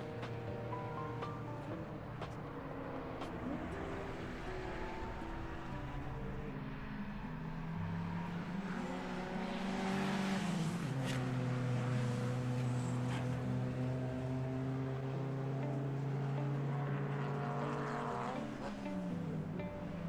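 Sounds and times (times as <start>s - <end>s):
road or wind noise: 0.0s - 20.0s.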